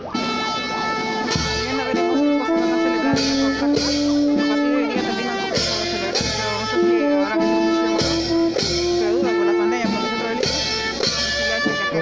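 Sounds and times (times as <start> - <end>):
brass band playing slow melody: 0.0 - 12.0
loud percussion strokes: 0.0 - 12.0.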